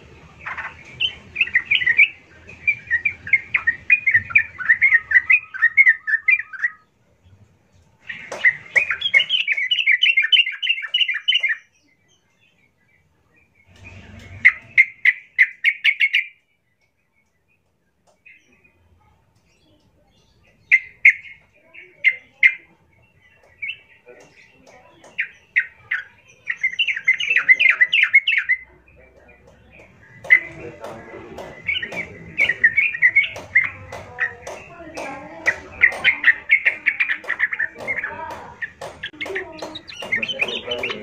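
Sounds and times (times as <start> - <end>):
bird singing rapid notes: 0.0 - 41.0.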